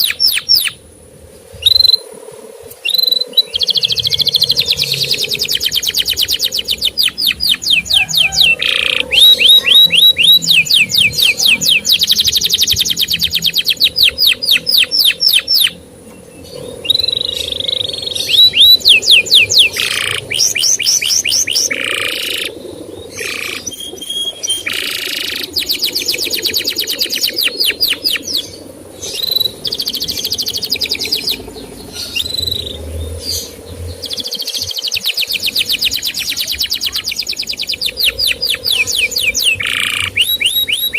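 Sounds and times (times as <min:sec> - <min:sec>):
canary singing trills: 0:00.0 - 0:00.8, 0:01.5 - 0:02.1, 0:02.8 - 0:40.9.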